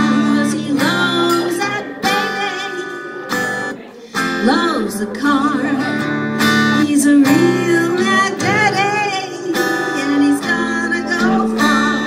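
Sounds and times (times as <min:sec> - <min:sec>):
strummed acoustic guitar: 0:00.0 - 0:12.0
woman singing: 0:00.0 - 0:12.0.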